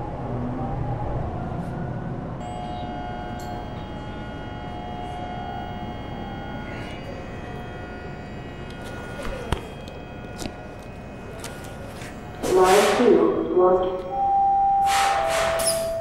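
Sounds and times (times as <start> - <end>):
multi-tone whine: 0.0 - 16.0
subway train rumble: 0.0 - 16.0.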